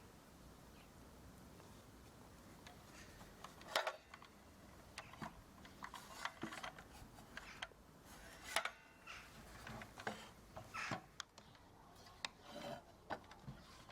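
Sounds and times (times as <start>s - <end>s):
light handling clicks and knocks: 1.6s - 13.9s.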